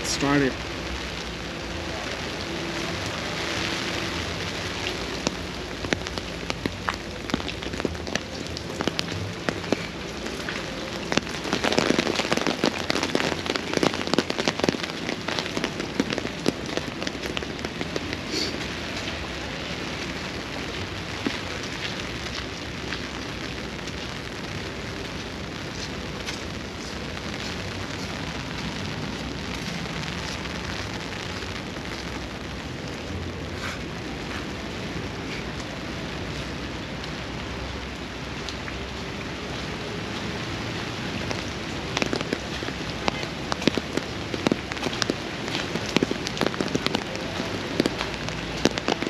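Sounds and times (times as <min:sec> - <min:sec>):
sharp raindrop ticks: 0:00.0 - 0:49.0
steady rain hiss: 0:00.0 - 0:49.0.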